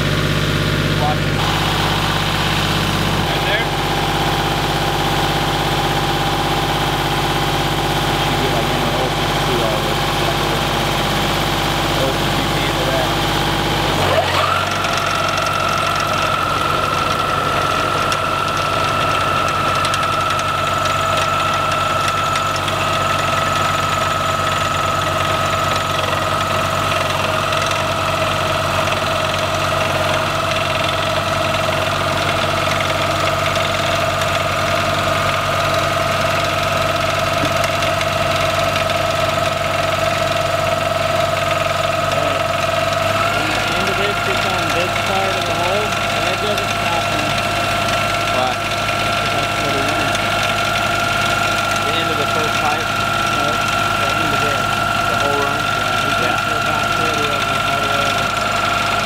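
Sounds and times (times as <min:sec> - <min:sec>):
engine rumbling under load: 0:00.0 - 0:59.0.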